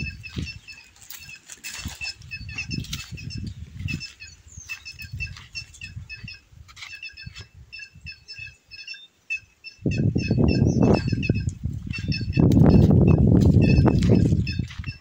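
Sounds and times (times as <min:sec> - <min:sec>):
wind noise on microphone: 0:00.0 - 0:08.7, 0:09.7 - 0:15.0.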